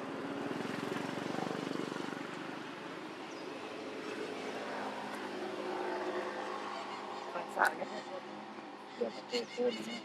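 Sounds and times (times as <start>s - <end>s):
engine passing by: 0.0s - 10.0s.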